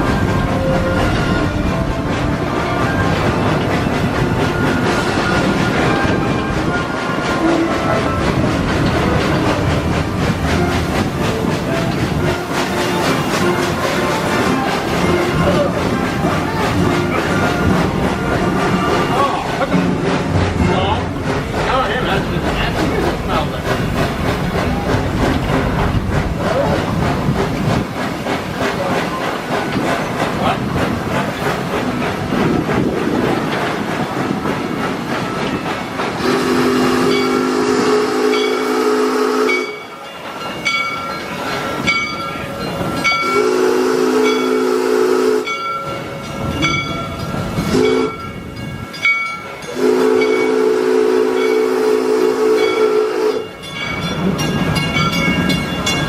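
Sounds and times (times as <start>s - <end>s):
locomotive bell ringing: 0.0s - 23.9s, 34.9s - 56.0s
steam locomotive rolling hiss: 0.0s - 56.0s.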